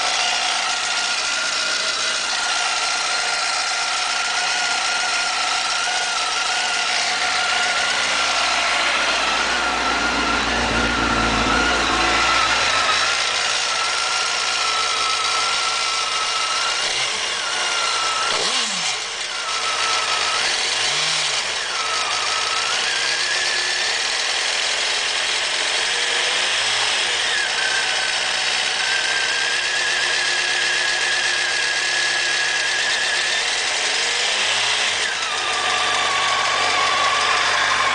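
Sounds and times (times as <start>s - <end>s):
motorcycle engine whining: 0.0s - 37.9s.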